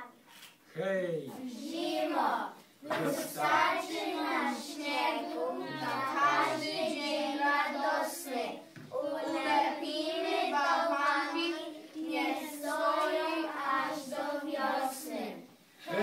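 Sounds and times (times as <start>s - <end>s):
children singing: 2.9s - 16.0s.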